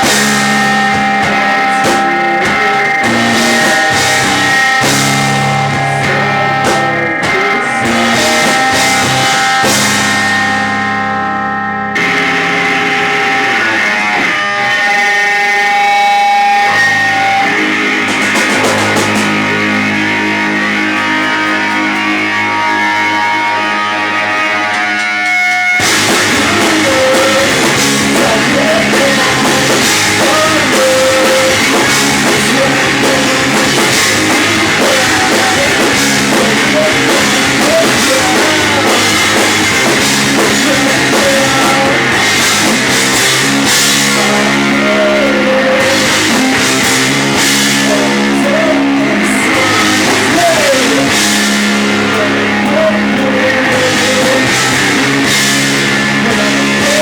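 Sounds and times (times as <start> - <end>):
distorted electric guitar: 0.0 - 57.0
drum kit: 0.0 - 57.0.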